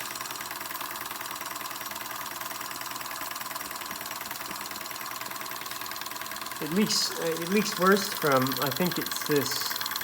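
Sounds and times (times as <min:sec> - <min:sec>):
toy steam engine piston beat: 0:00.0 - 0:10.0.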